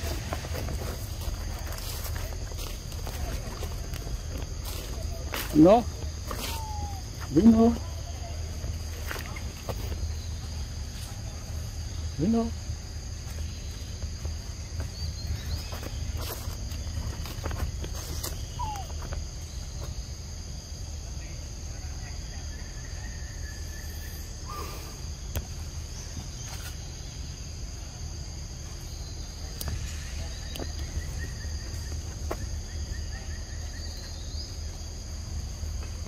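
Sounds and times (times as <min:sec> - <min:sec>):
forest insects chorus: 0:00.0 - 0:36.0.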